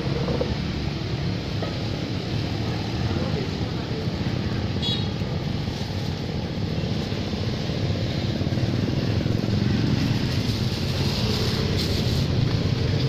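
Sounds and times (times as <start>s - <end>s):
motorbikes passing: 0.0s - 13.0s
street traffic rumble: 0.0s - 13.0s.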